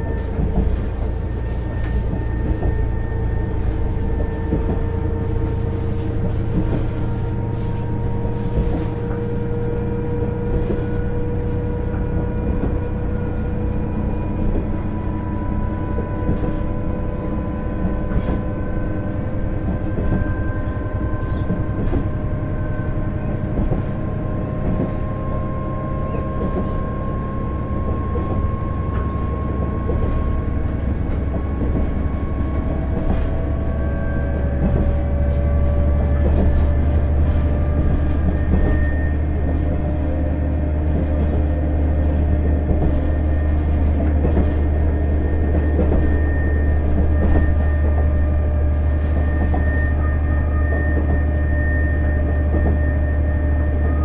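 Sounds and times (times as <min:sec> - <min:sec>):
diesel railcar engine droning: 0:00.0 - 0:54.0.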